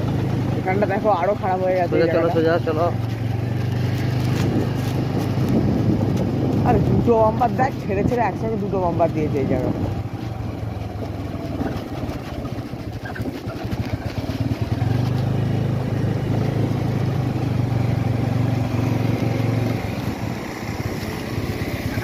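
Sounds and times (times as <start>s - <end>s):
scooter engine humming: 0.0s - 22.0s.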